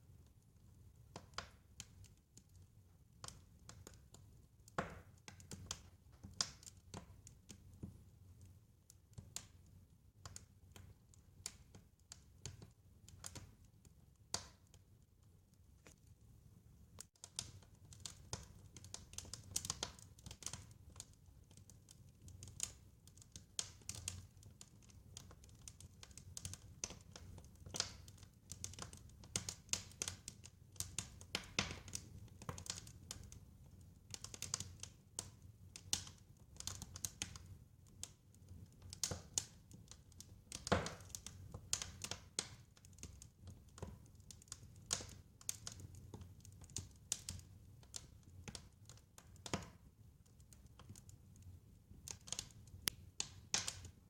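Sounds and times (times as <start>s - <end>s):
wood fire crackling and popping: 0.2s - 54.0s.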